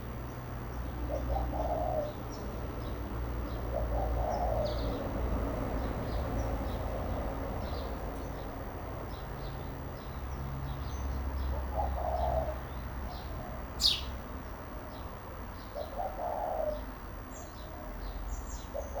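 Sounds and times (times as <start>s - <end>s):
sparrows chirping: 0.0s - 19.0s.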